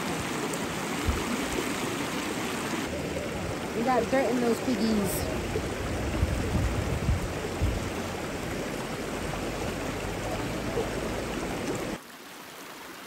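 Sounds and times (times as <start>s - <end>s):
water running over rocks: 0.0s - 13.0s.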